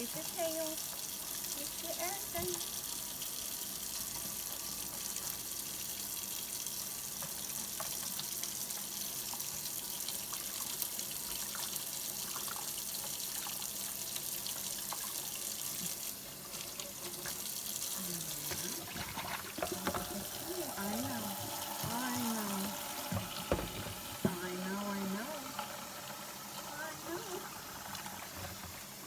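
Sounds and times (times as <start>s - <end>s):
tap water running into sink: 0.0s - 29.0s
water splashes and drips: 0.0s - 29.0s.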